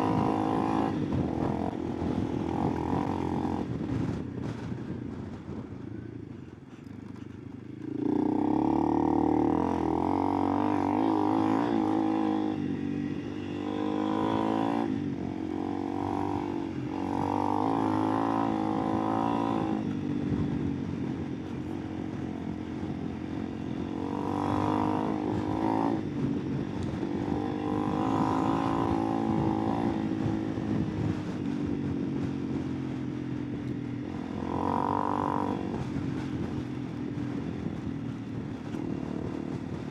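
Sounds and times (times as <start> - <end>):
motorcycle engine revving: 0.0 - 4.7, 7.2 - 39.9.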